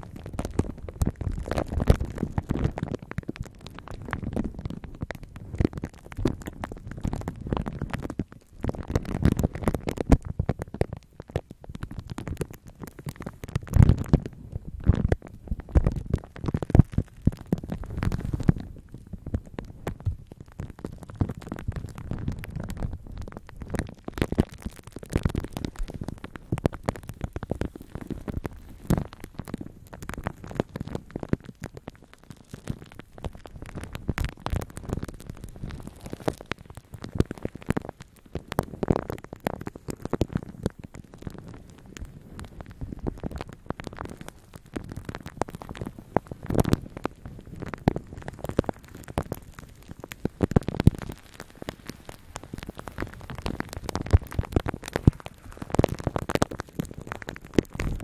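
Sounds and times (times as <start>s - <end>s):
plastic film crinkling: 0.0s - 58.0s.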